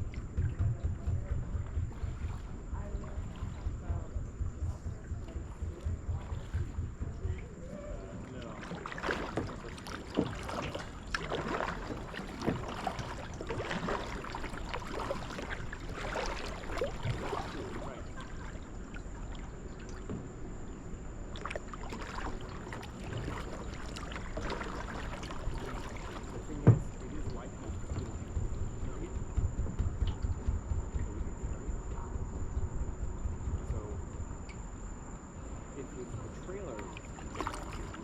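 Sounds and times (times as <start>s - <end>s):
low rumble: 0.0s - 38.0s
paddle swishing through water: 0.0s - 38.0s.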